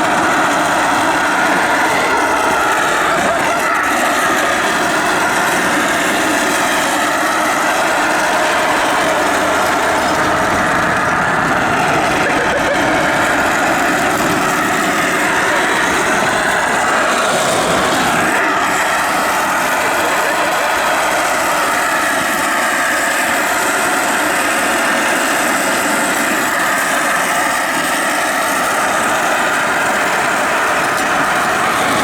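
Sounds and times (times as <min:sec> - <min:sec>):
car engine running: 0:00.0 - 0:32.0
road noise: 0:00.0 - 0:32.0.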